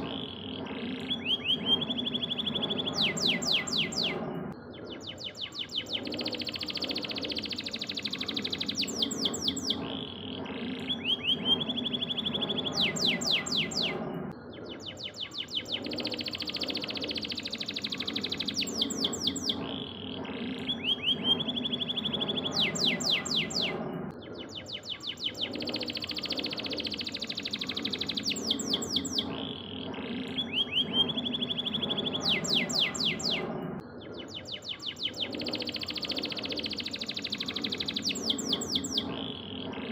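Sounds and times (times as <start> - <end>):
canary singing trills: 0.0 - 39.9
steady low hum: 0.0 - 39.9.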